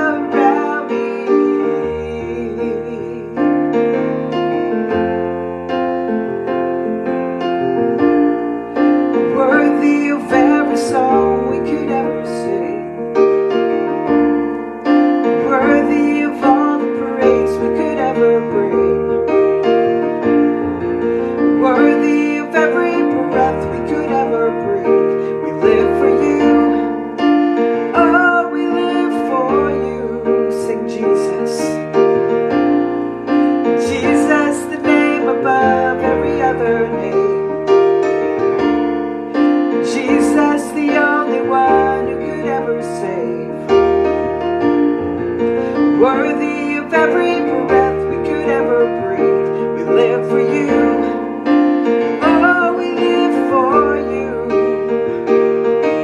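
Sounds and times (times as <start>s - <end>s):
slow piano chords: 0.0s - 56.0s.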